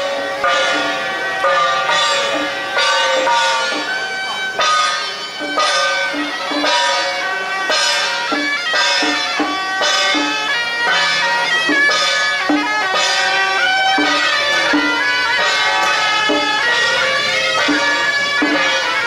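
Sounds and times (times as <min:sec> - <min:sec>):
shawms playing procession melody: 0:00.0 - 0:19.0
steady beat: 0:00.0 - 0:19.0.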